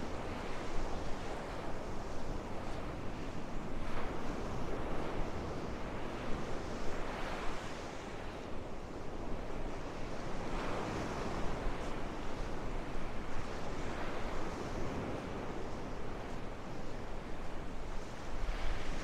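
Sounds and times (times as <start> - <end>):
surf washing up sand: 0.0 - 19.0
wind rumbling on microphone: 0.0 - 19.0.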